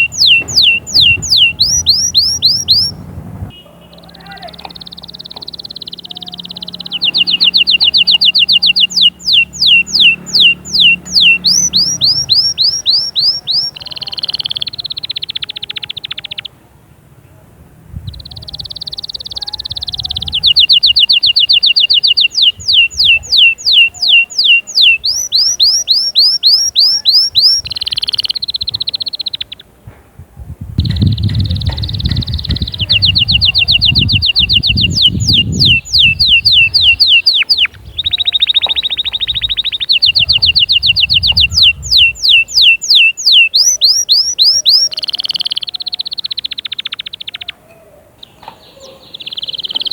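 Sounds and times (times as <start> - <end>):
canary singing: 0.0 - 16.6, 18.0 - 29.8, 30.7 - 49.9.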